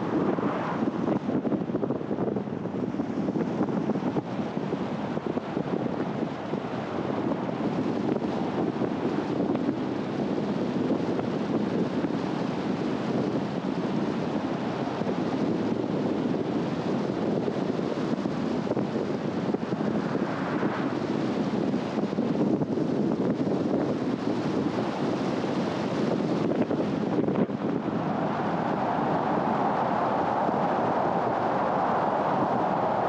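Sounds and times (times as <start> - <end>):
tyres and wind rushing: 0.0 - 33.0.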